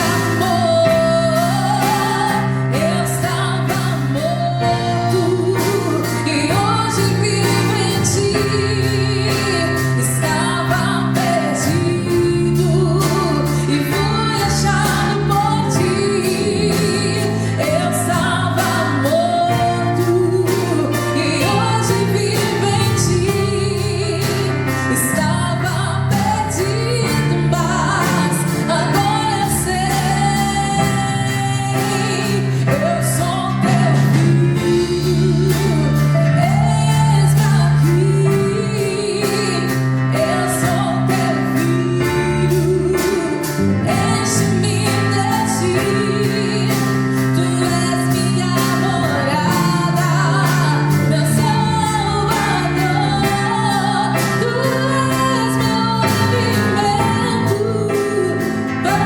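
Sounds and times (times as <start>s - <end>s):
acoustic guitar: 0.0s - 59.0s
bass guitar: 0.0s - 59.0s
drum kit: 0.0s - 59.0s
piano: 0.0s - 59.0s.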